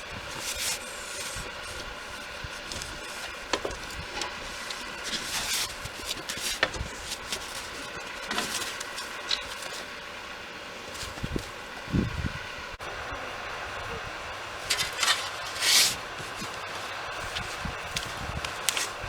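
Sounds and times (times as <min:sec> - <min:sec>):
snow-clearing machine engine running: 0:00.0 - 0:19.0.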